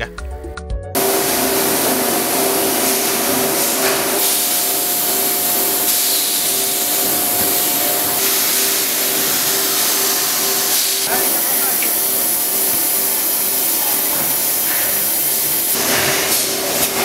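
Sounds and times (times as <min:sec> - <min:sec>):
filling machine hissing and humming: 0:01.0 - 0:17.0.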